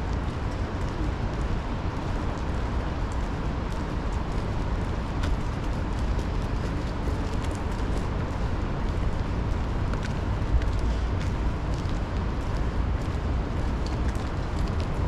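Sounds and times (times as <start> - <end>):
city traffic noise: 0.0 - 15.0
rain: 0.0 - 15.0
wind buffeting microphone: 0.0 - 15.0.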